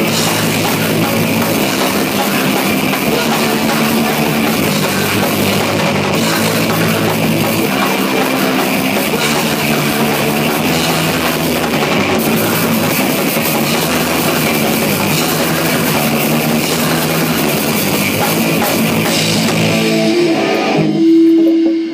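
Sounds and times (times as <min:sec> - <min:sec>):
rock band playing live: 0:00.0 - 0:21.9.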